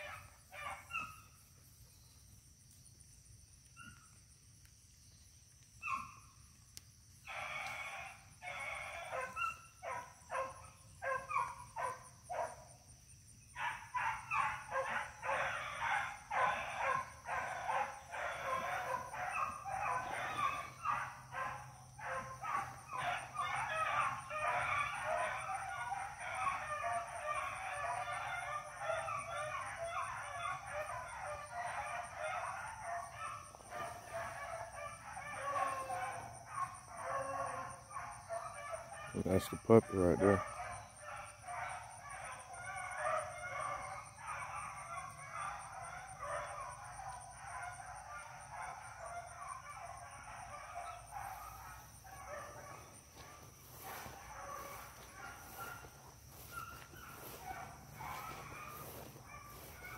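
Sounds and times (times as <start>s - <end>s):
dogs baying and barking: 0.0s - 59.9s.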